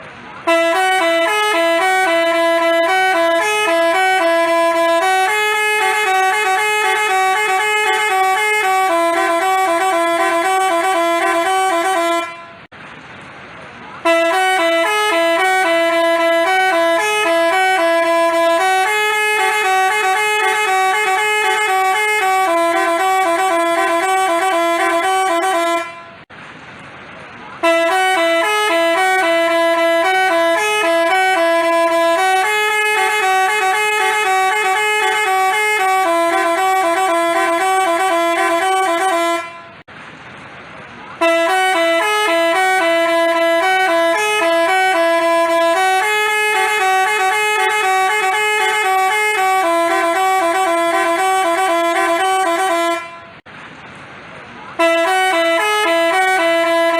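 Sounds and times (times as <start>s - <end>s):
bus horn playing a melody: 0.2s - 12.7s, 14.0s - 26.3s, 27.6s - 39.9s, 41.2s - 53.5s, 54.7s - 56.9s.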